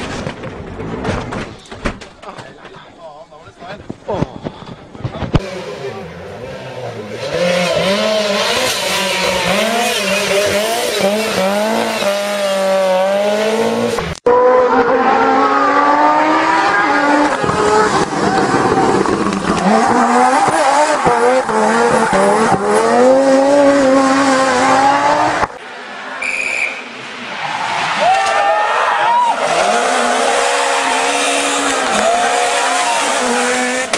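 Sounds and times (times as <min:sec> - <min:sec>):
rally car engines at full throttle: 0:03.8 - 0:33.9.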